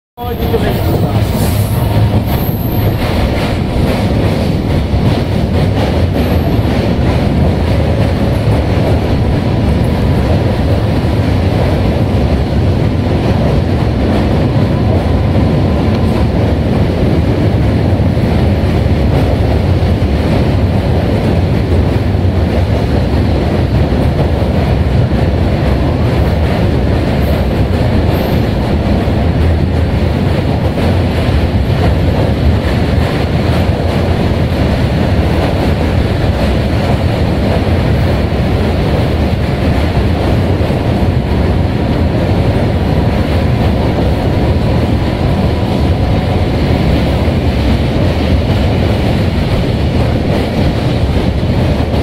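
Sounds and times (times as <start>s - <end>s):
train rumbling over bridge: 0.2s - 52.0s.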